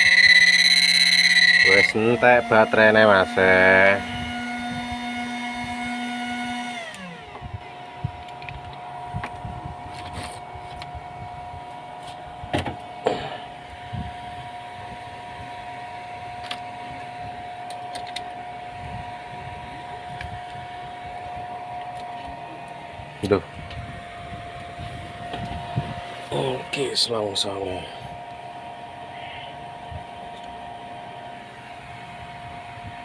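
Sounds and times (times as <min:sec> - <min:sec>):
inverter whining: 0:00.0 - 0:33.0.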